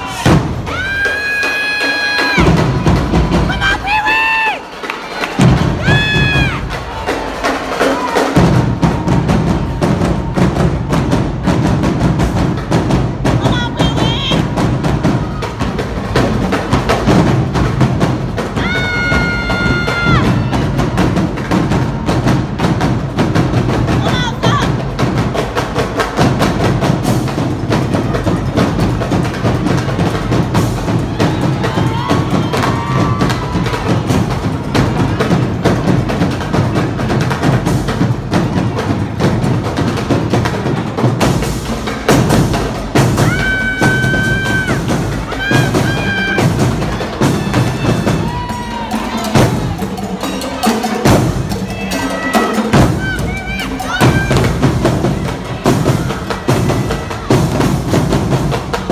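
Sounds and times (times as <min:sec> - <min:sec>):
drum-heavy dance music: 0:00.0 - 0:58.9.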